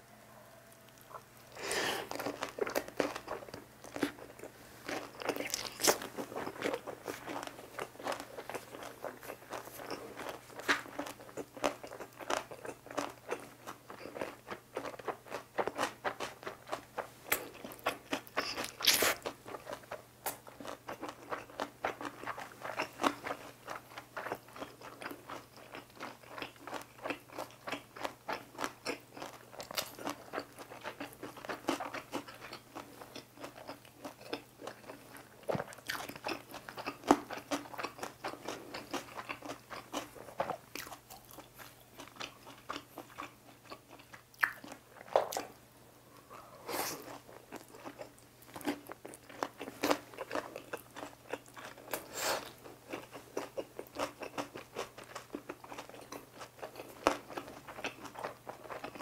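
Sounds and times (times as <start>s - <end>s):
person chewing crunchy food: 0.9s - 59.0s.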